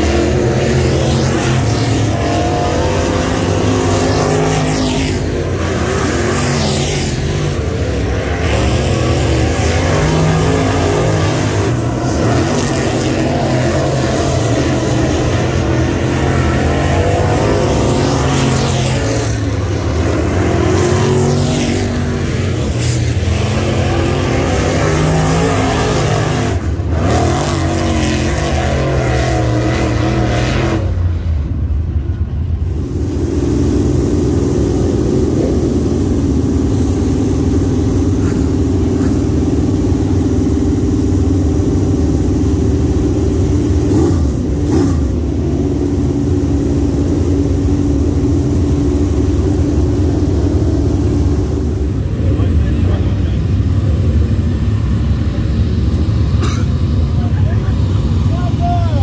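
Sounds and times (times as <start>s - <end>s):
race car engines running hard: 0.0s - 59.0s.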